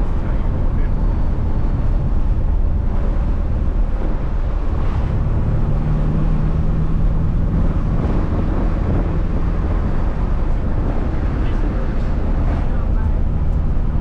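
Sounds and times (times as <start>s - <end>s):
car engine drone: 0.0s - 14.0s
road and wind noise: 0.0s - 14.0s.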